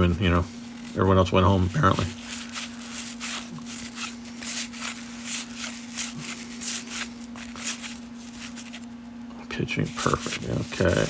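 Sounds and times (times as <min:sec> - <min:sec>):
cards swishing and rustling: 0:00.0 - 0:09.0, 0:09.8 - 0:11.0.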